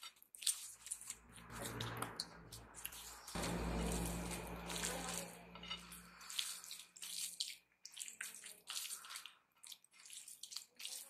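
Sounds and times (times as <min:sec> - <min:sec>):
wet squelching of hand mixing food: 0:00.0 - 0:11.0.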